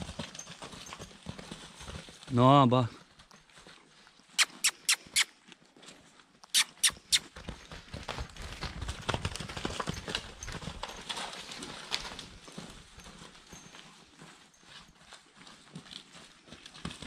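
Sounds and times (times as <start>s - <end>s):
horse hooves stepping: 0.0s - 2.3s, 3.0s - 17.0s.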